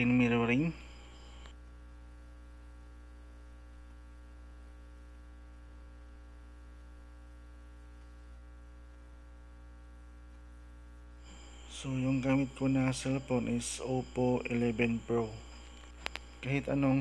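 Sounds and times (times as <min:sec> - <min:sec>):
electrical mains hum: 0:00.0 - 0:17.0
faint buzz: 0:00.0 - 0:17.0.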